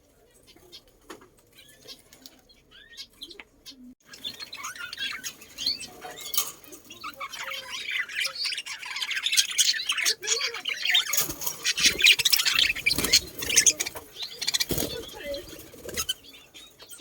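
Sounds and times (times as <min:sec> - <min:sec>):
flock of birds chirping: 0:00.0 - 0:17.0.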